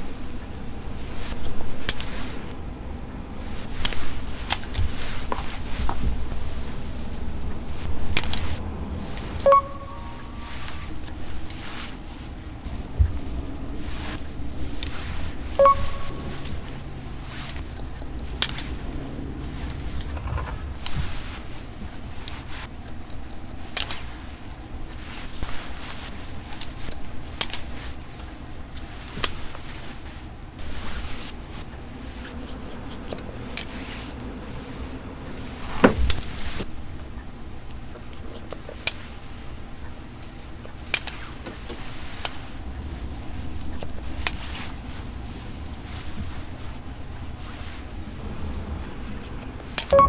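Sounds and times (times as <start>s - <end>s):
soft handling noise: 0.0s - 50.0s.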